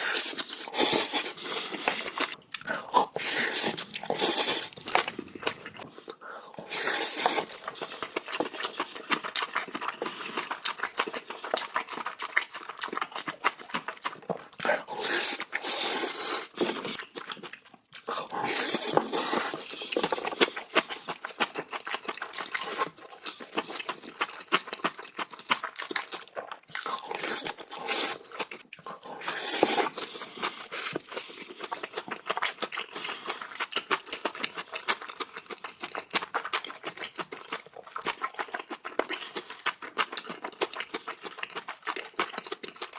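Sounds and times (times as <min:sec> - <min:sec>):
person chewing food wetly: 0:00.0 - 0:42.9.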